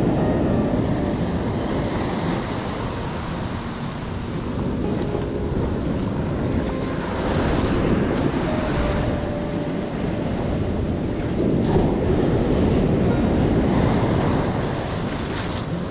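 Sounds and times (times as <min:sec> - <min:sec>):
sea surf washing in: 0:00.0 - 0:15.9
wind buffeting microphone: 0:00.0 - 0:15.9.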